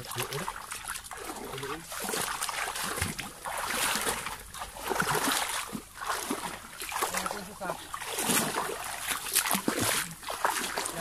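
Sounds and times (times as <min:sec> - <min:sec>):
shallow water sloshing: 0:00.0 - 0:11.0.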